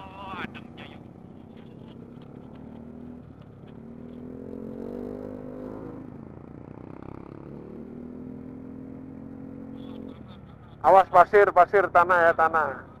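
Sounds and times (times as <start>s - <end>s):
scooter engine revving: 0.0s - 10.8s
wind and road noise: 0.0s - 13.0s.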